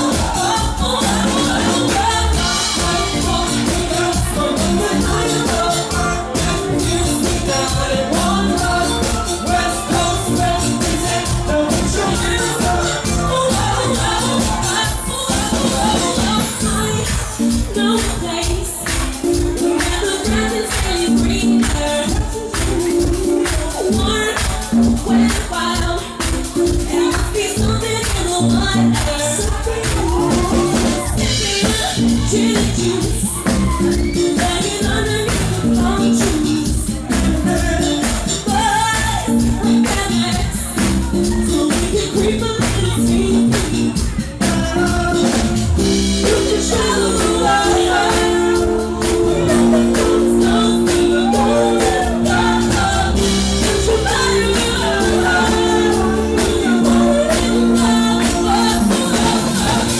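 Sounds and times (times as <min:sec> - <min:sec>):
lead singing: 0:00.0 - 0:59.9
live band playing dance song: 0:00.0 - 0:59.9.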